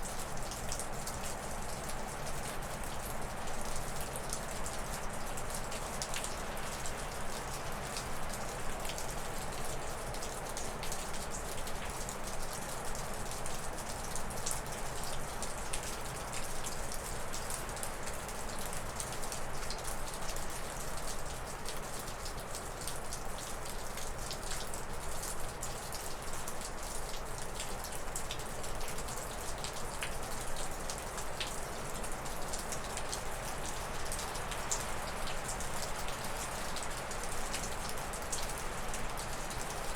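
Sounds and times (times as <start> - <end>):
meltwater dripping off roof: 0.0 - 39.9.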